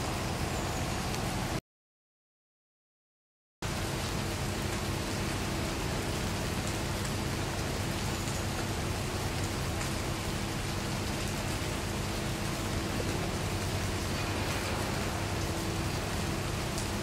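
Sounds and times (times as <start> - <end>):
steady rain falling: 0.0 - 1.6, 3.6 - 17.0.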